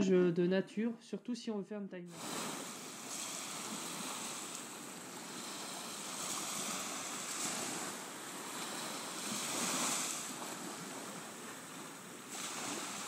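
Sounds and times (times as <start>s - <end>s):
sea waves washing onto beach: 2.1s - 13.0s.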